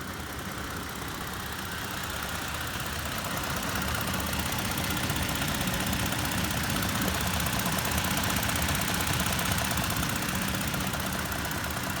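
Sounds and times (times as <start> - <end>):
engine idling: 0.0 - 12.0
rapid engine clicking: 0.0 - 12.0.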